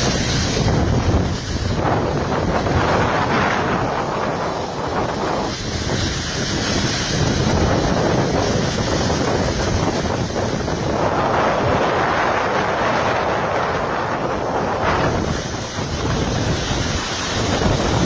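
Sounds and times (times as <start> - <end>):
waterfall rushing: 0.0 - 18.0
wind gusting against microphone: 0.0 - 18.0.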